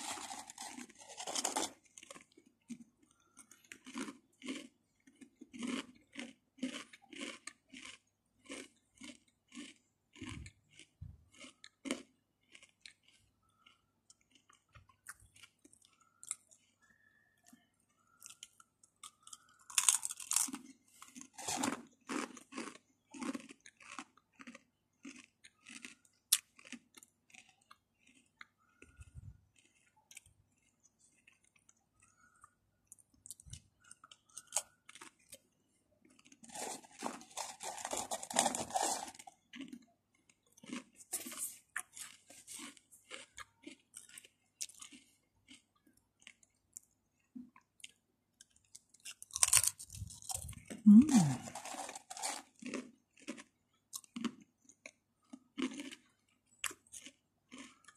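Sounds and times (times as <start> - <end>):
crunching crisps: 0.0 - 57.9.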